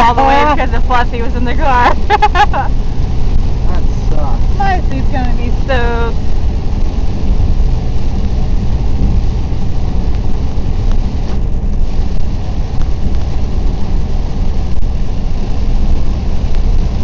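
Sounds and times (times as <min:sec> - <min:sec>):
rain on car: 0:00.0 - 0:17.0
tyres on wet road: 0:00.0 - 0:17.0.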